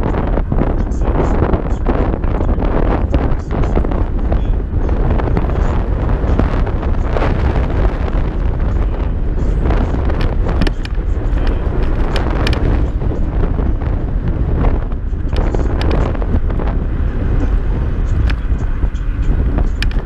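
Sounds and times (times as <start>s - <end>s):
sharp clicks and rattles: 0.0s - 20.0s
wind buffeting microphone: 0.0s - 20.0s.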